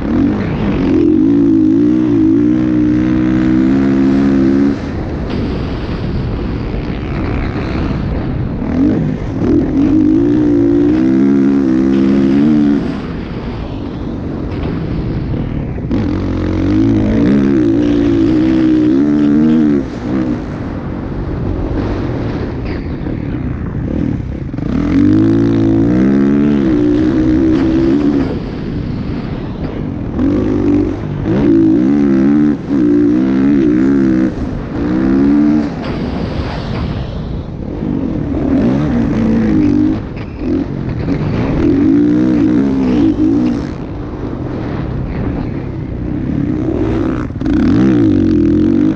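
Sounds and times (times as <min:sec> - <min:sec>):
motocross bike engines revving: 0:00.0 - 0:48.9.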